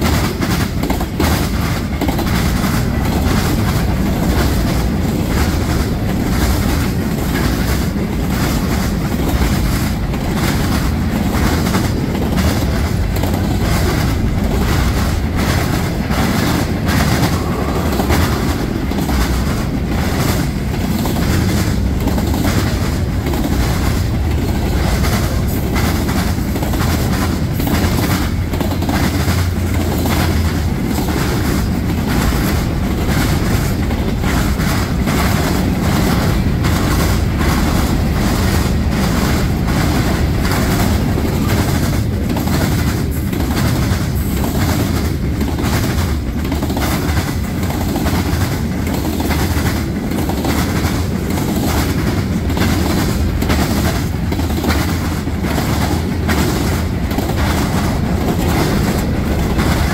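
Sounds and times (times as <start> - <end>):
low rumble of rolling cars: 0.0 - 59.9
train wheels pounding rail gaps: 0.0 - 59.9.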